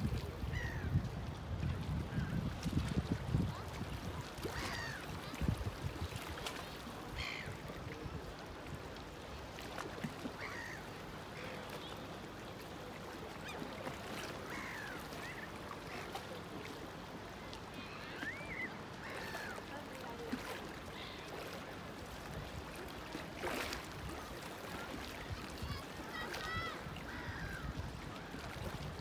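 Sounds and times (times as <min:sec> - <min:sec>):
waterbirds calling: 0:00.0 - 0:01.4, 0:02.0 - 0:29.0
wind and water hiss: 0:00.0 - 0:29.0.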